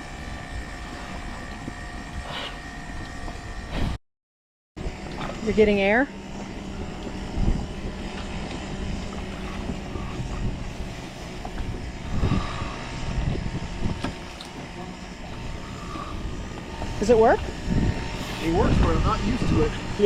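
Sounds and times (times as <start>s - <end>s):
air compressor humming: 0.0s - 4.0s, 4.8s - 20.0s.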